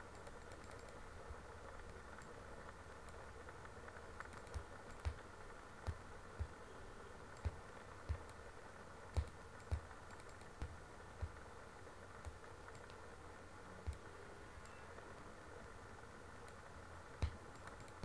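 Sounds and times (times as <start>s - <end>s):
computer mouse clicking: 0.0s - 6.6s, 7.2s - 8.5s, 9.1s - 11.5s, 12.2s - 13.1s, 13.8s - 15.4s, 16.4s - 18.0s.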